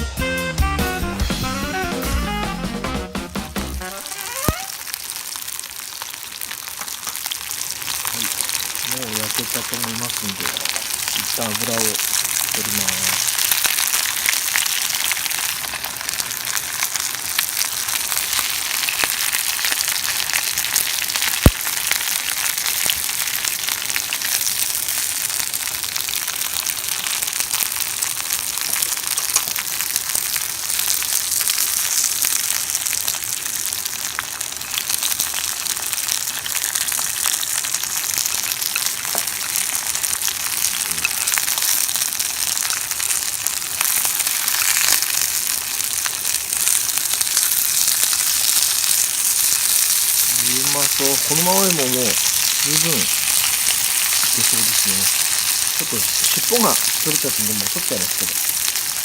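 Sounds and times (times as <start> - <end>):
fish sizzling in oil: 3.7 - 59.0.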